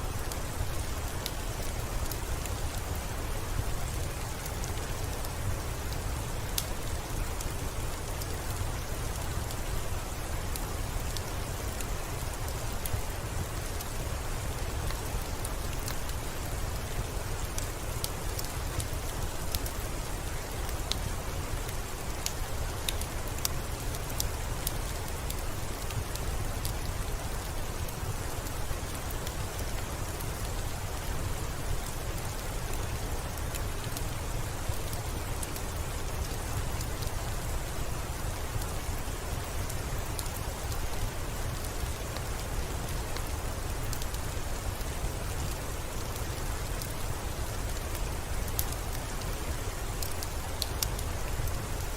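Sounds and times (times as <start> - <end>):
sharp rain ticks: 0.0 - 51.9
steady rain hiss: 0.0 - 51.9.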